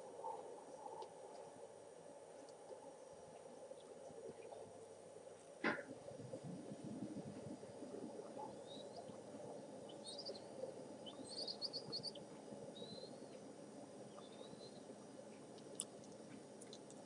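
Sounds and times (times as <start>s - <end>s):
low crackling rustle: 0.0s - 17.0s
songbirds chirping: 0.0s - 17.0s.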